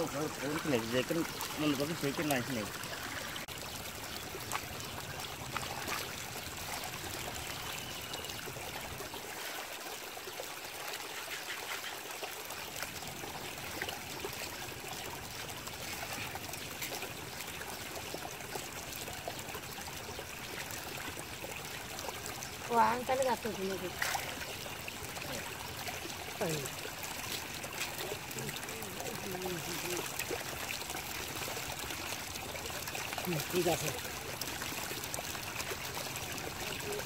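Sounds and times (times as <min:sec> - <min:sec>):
shallow water trickling: 0:00.0 - 0:37.0.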